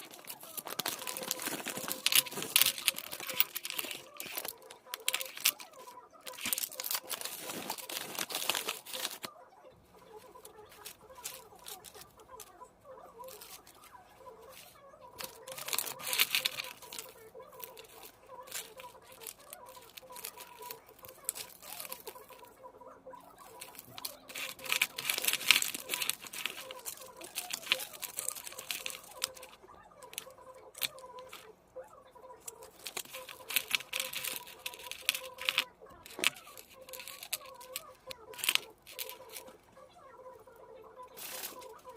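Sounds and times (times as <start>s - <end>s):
packaging crinkling and tearing: 0.0s - 9.3s, 10.0s - 22.6s, 23.2s - 31.5s, 32.3s - 39.8s, 41.0s - 41.9s.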